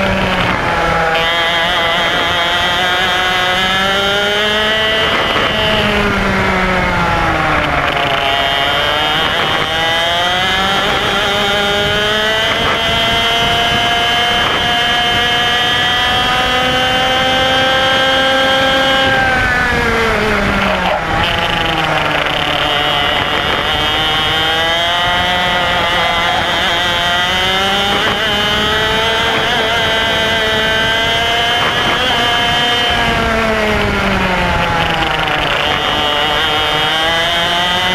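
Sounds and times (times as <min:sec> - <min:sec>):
kart engine revving: 0:00.0 - 0:37.9.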